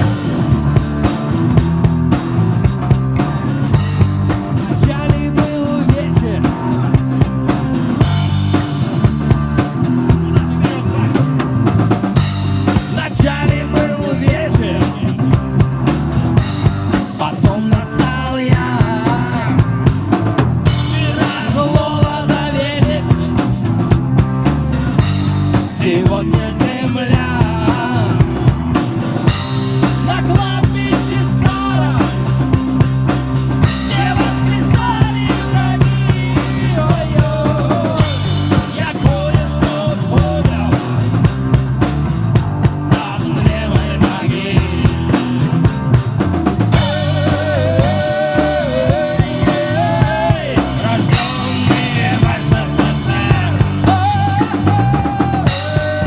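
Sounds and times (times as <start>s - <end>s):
drum kit beat: 0.0s - 56.0s
rock band playing: 0.0s - 56.0s.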